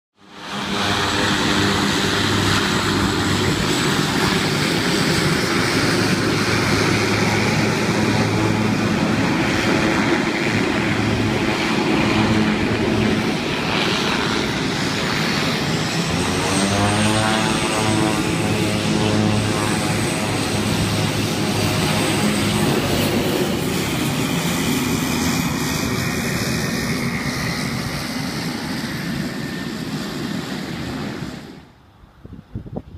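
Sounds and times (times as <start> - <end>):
propeller aircraft engines running: 0.2 - 32.9.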